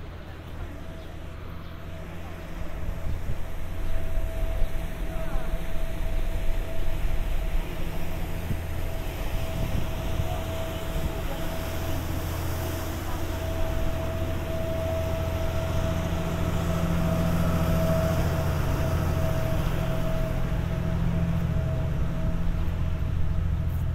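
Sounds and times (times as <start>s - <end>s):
boat engine rumbling: 0.0s - 23.9s.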